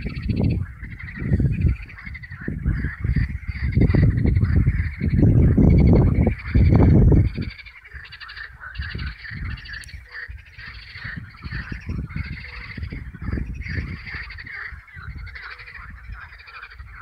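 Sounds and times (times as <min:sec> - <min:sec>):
frogs calling in pulsed trills: 0:00.0 - 0:17.0.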